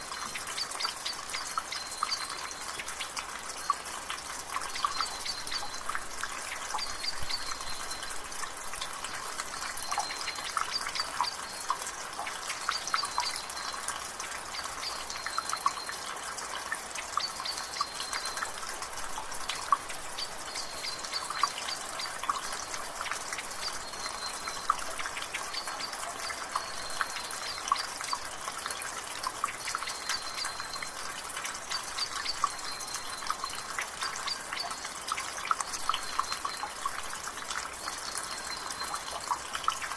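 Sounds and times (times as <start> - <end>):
rain hiss: 0.0 - 39.9
water dripping from gutter: 0.0 - 39.9.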